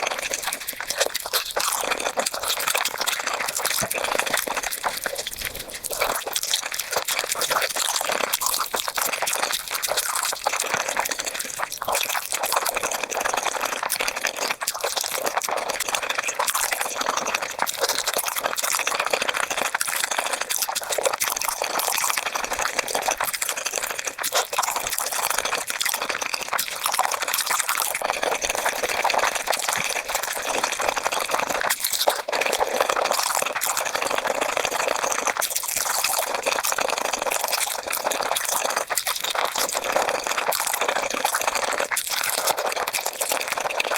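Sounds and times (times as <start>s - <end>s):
wet chewing and smacking: 0.0s - 43.9s.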